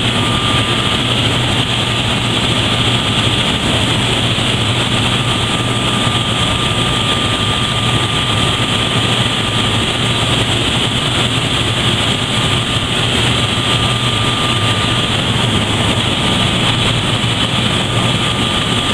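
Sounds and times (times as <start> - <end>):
low hum: 0.0 - 18.9
pump mechanical drone: 0.0 - 18.9
thin high whine: 0.0 - 18.9.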